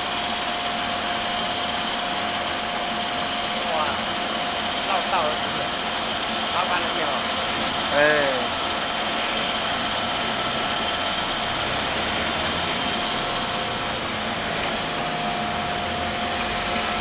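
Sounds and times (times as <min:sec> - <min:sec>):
pumps and motors humming: 0:00.0 - 0:17.0.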